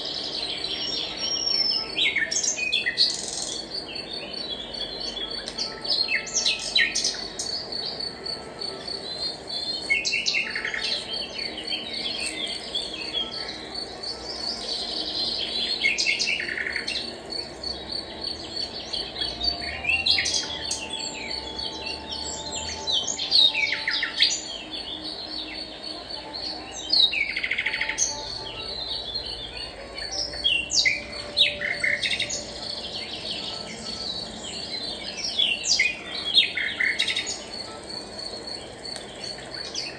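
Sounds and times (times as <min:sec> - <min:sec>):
birds chirping and singing: 0:00.0 - 0:39.9
high-pitched insect trill: 0:00.0 - 0:39.9.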